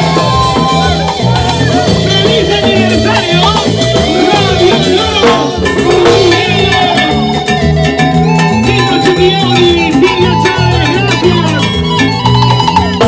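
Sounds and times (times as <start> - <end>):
band playing latin dance music: 0.0 - 13.0.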